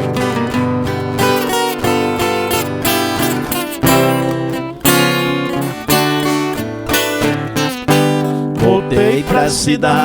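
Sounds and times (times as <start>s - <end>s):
acoustic guitars strummed and picked: 0.0s - 10.0s.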